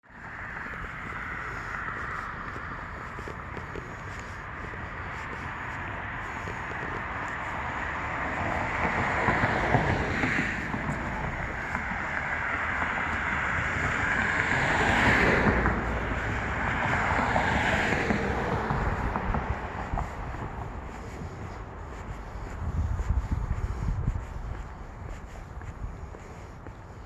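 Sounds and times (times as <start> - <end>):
road traffic passing: 0.0 - 27.0
wind buffeting microphone: 0.1 - 27.0.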